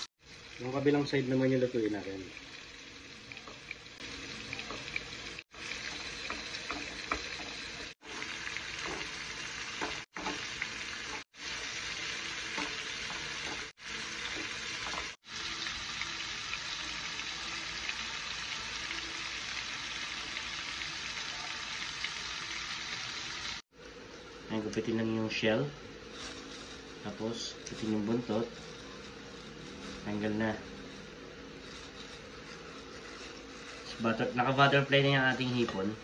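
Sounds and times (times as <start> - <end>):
shrimp sizzling in hot oil: 0.0 - 36.0.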